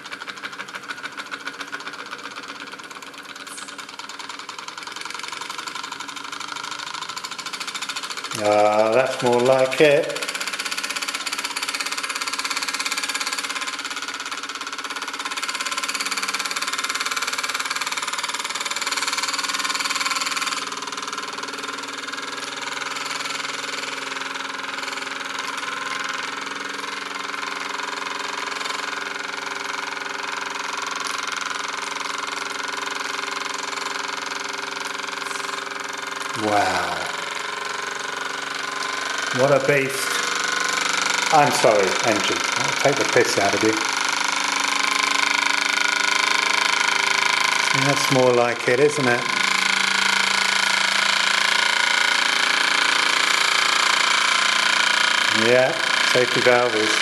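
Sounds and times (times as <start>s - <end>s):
toy steam engine running: 0.0s - 57.0s.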